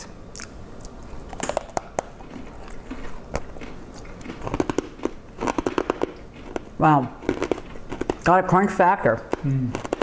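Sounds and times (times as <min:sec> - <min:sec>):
person crunching hard toffee: 0:00.3 - 0:10.0.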